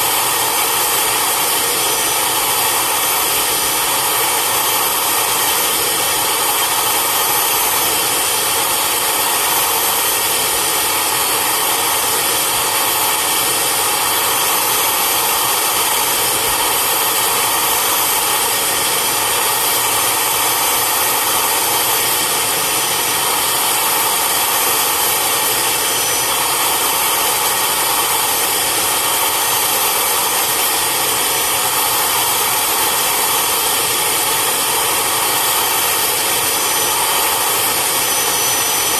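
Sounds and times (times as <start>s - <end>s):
vacuum motor suction hiss: 0.0s - 38.9s.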